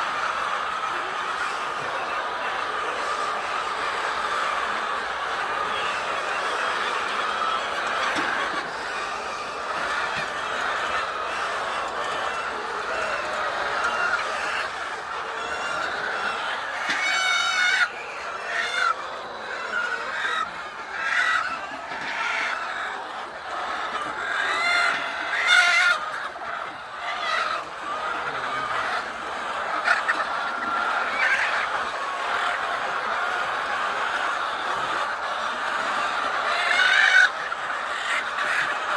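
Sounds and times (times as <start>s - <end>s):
hens clucking: 0.0s - 38.9s
hens squawking: 0.0s - 38.9s.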